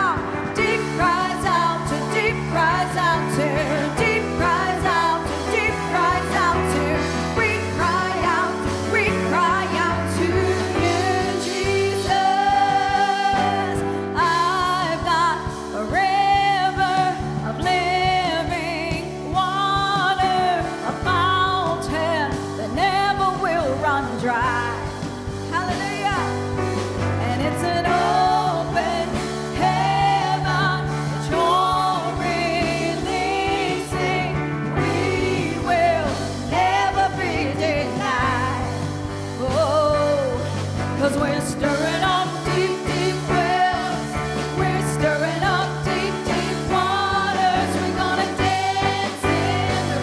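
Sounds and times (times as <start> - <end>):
band with bass and keyboard: 0.0 - 50.0.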